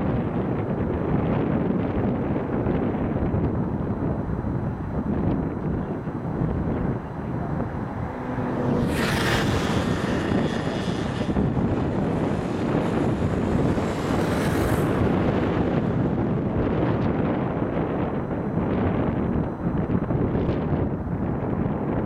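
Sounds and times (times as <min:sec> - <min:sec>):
high jet engine whine: 0:00.0 - 0:22.0
jet engines low rumble: 0:00.0 - 0:22.0.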